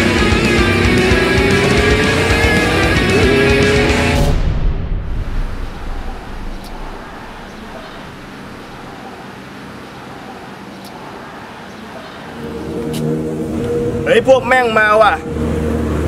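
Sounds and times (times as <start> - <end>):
road traffic hum: 0.0 - 16.0
vehicle engine: 0.0 - 16.0.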